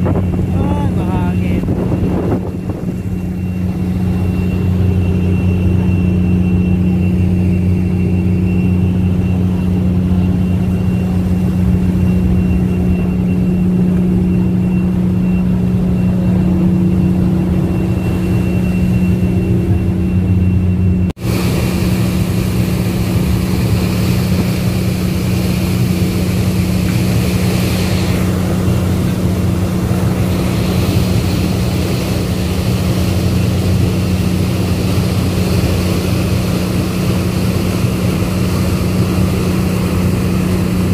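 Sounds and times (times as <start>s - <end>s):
faint steady whine: 0.0s - 40.9s
propeller wash rushing: 0.0s - 40.9s
ship engine droning: 0.0s - 40.9s.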